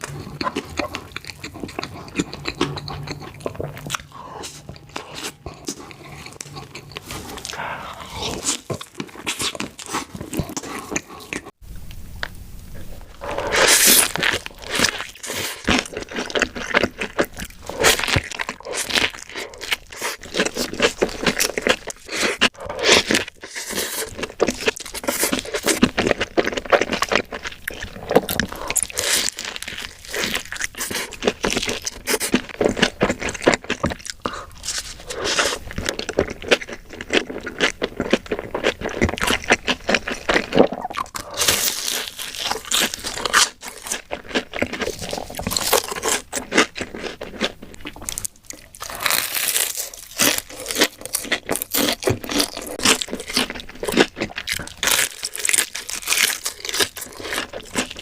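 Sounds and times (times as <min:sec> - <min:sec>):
chewing crunchy food: 0:00.0 - 0:11.6, 0:12.2 - 0:58.0.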